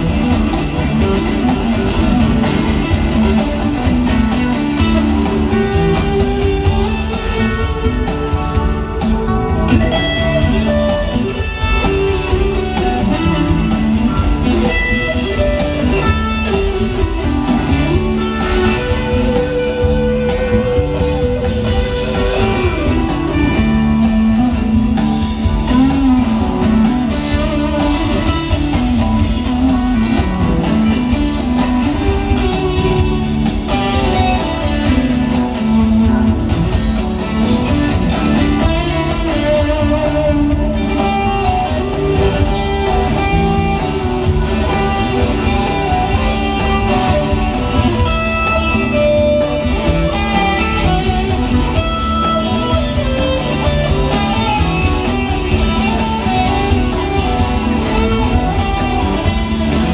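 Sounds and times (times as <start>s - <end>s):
bass guitar: 0.0s - 59.9s
drums: 0.0s - 59.9s
electric guitars: 0.0s - 59.9s.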